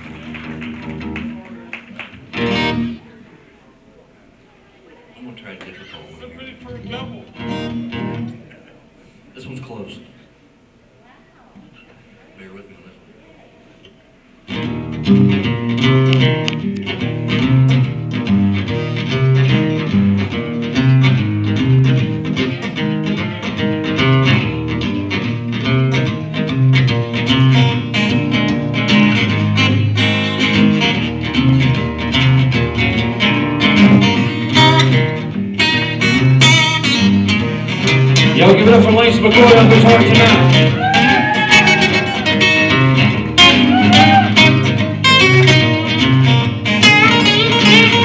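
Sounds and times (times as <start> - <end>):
acoustic guitar picking: 0.0 - 3.3, 5.7 - 8.6, 14.5 - 48.0.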